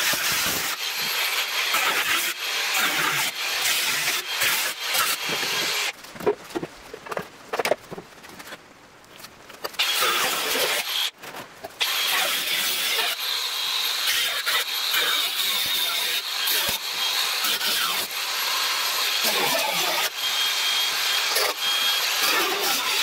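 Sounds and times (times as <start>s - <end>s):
angle grinder cutting steel: 0.0s - 5.9s, 9.8s - 11.2s, 11.8s - 23.0s.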